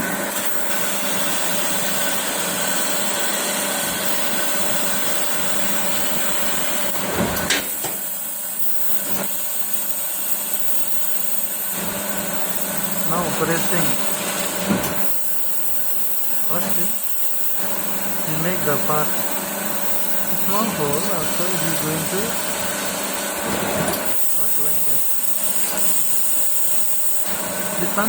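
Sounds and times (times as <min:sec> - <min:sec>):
machine hum: 0:00.0 - 0:08.0, 0:11.7 - 0:28.0
laser cutter hiss: 0:00.0 - 0:28.0.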